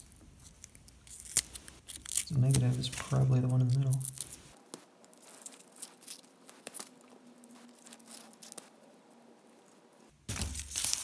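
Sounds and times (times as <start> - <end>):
paper and foil crackling and tearing: 0.0 - 8.9, 9.6 - 11.0.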